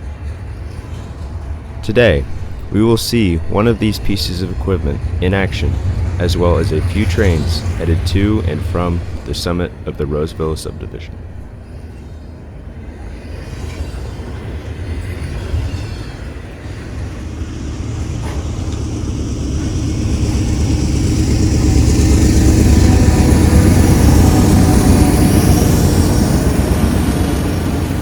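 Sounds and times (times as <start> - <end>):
diesel train engine rumble: 0.0 - 28.0
train rail noise: 0.0 - 28.0.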